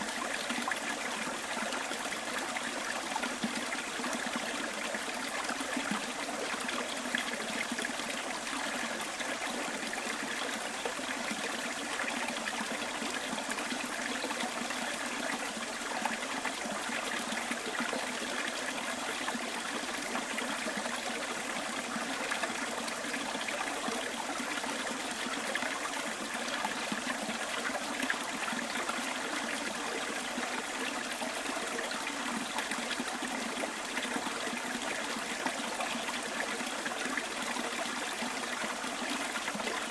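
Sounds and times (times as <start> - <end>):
stream trickling and burbling: 0.0 - 39.9.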